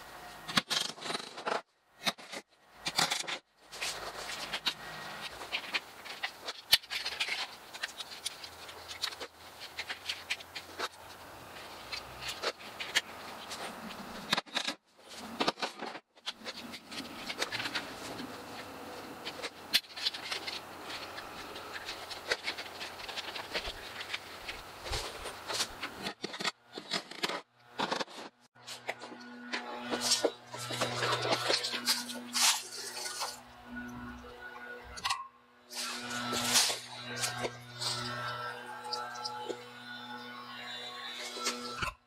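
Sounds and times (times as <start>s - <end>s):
rustling and scraping: 0.1s - 35.0s, 35.7s - 42.0s.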